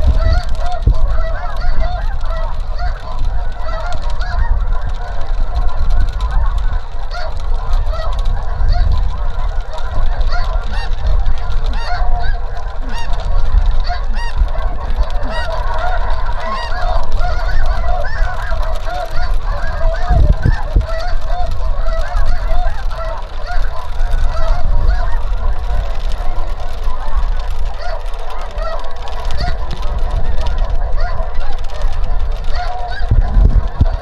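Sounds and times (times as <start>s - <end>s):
geese honking: 0.0s - 34.0s.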